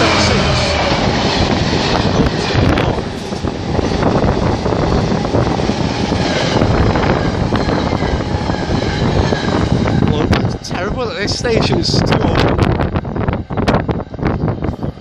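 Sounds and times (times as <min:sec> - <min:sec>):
train wheels clattering on rails: 0:00.0 - 0:12.8
wind on microphone: 0:00.0 - 0:15.0.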